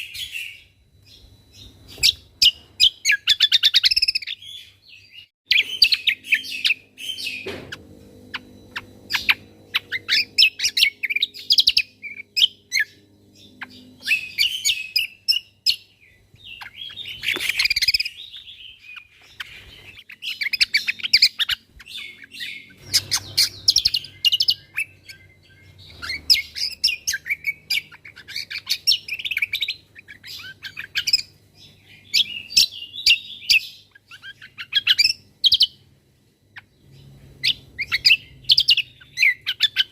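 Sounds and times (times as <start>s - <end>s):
faint low hum: 0.0s - 39.9s
songbird chirping and trilling: 0.0s - 39.9s.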